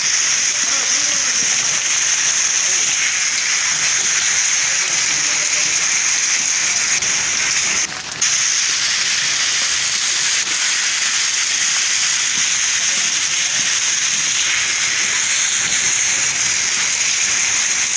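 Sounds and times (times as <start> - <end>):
heavy rain hissing: 0.0 - 17.9.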